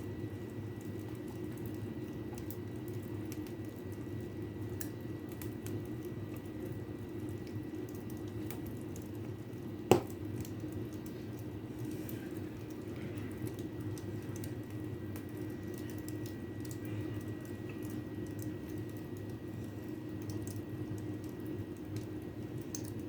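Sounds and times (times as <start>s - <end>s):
fire crackling in fireplace: 0.0s - 23.0s
steady low hum: 0.0s - 23.0s.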